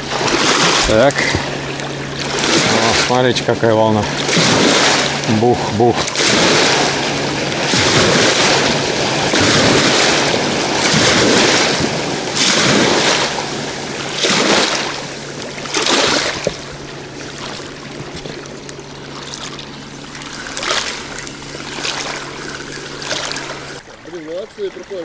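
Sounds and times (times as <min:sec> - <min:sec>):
boat wake washing onto bank: 0:00.0 - 0:25.0.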